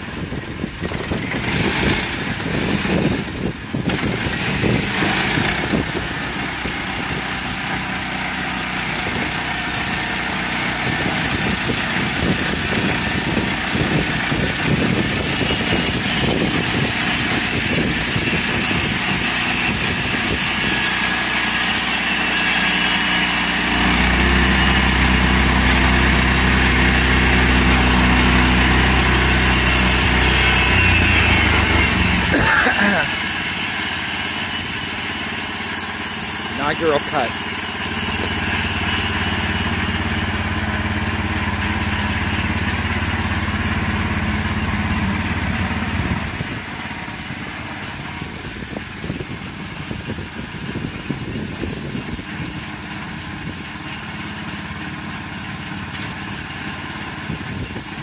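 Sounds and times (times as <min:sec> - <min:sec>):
band saw cutting log: 0:00.0 - 0:58.0
sawmill engine running: 0:00.0 - 0:58.0.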